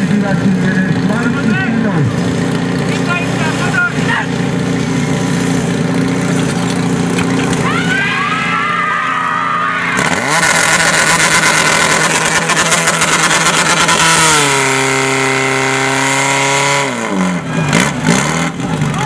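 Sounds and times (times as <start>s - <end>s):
pump engine running at high revs: 0.0s - 19.0s.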